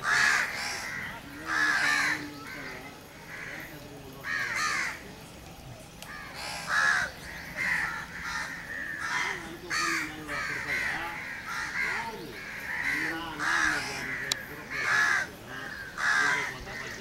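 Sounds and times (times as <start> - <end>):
birds cawing: 0.0 - 17.0.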